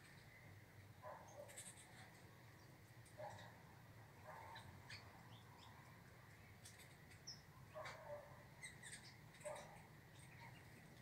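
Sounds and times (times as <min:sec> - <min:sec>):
faint wild bird calls: 0:00.0 - 0:11.0.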